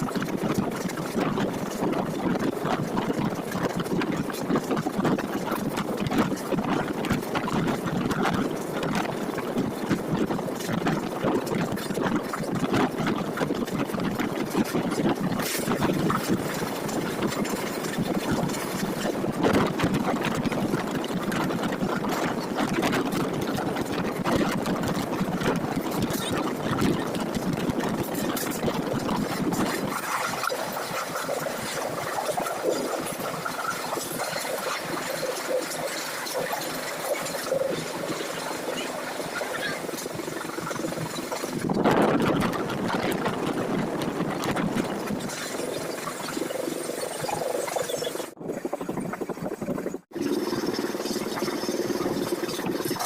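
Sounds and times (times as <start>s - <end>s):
moving vehicle running noise: 0.0s - 53.0s
small rattles and clicks: 0.0s - 53.0s.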